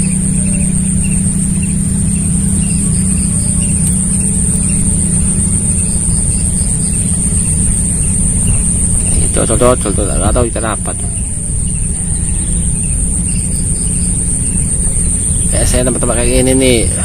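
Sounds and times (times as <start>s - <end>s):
small engine humming with whine: 0.0s - 17.0s.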